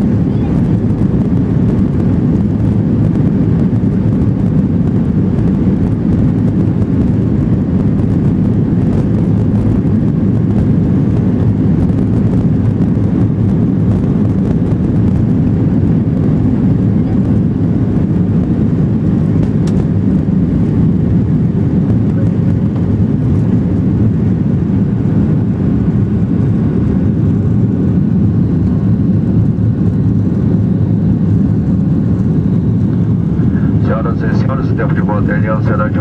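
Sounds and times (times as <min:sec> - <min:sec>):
jet engines deep rumble: 0:00.0 - 0:36.0.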